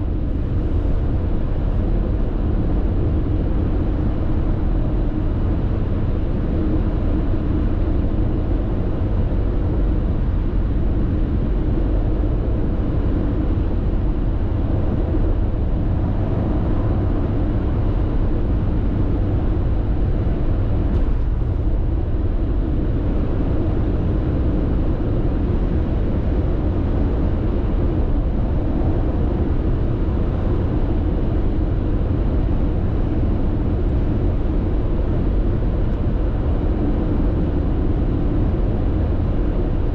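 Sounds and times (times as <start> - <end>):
car road noise drone: 0.0 - 39.9.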